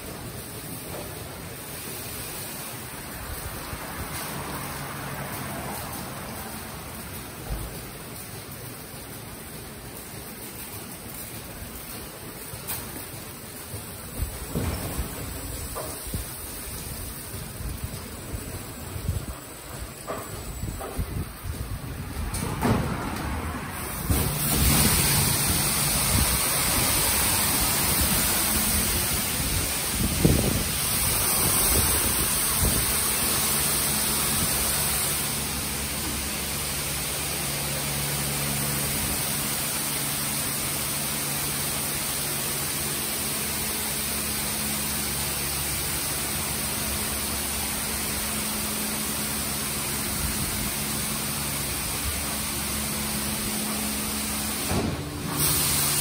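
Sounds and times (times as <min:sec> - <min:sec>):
water spray hissing: 0:00.0 - 0:22.4, 0:23.2 - 0:56.0.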